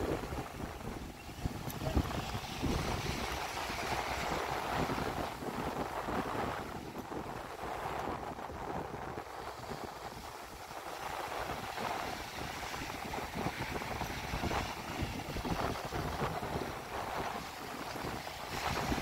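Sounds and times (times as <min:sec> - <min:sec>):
small waves washing ashore: 0:00.0 - 0:19.0
wind buffeting microphone: 0:00.0 - 0:19.0.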